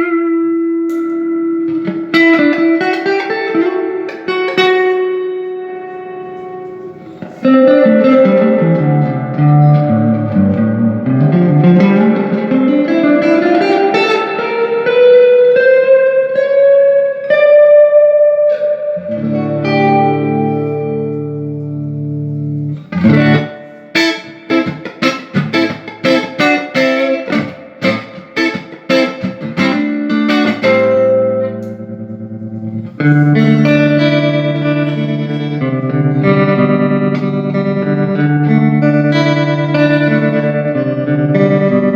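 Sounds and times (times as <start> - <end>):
electric guitar with reverb: 0.0 - 41.9.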